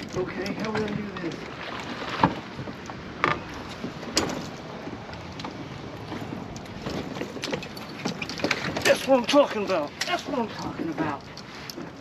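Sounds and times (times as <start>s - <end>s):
water splashing: 0.0s - 11.2s
wind: 0.0s - 12.0s.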